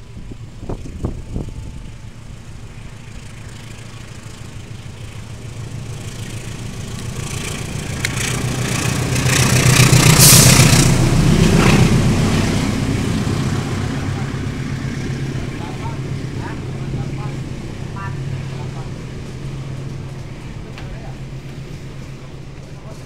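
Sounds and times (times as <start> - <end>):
diesel locomotive engine hum: 0.0 - 23.0
wheels on rails: 0.0 - 23.0.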